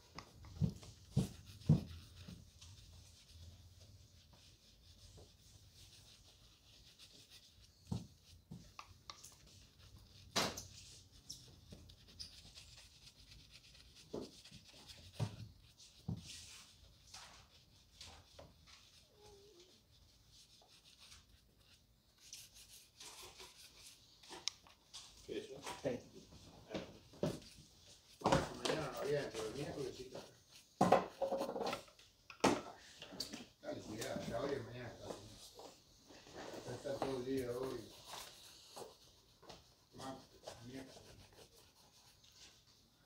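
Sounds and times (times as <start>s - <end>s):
rubbing and scrubbing leather shoes: 0.0s - 24.4s, 25.2s - 31.8s, 33.7s - 43.0s
brush strokes on shoes: 0.0s - 24.5s, 25.2s - 30.9s, 33.6s - 43.0s.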